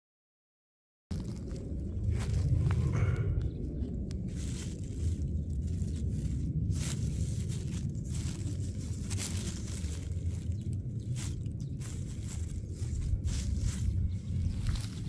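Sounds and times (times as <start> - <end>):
low rumble: 1.1 - 15.0
rustling of leafy plants: 1.1 - 15.0.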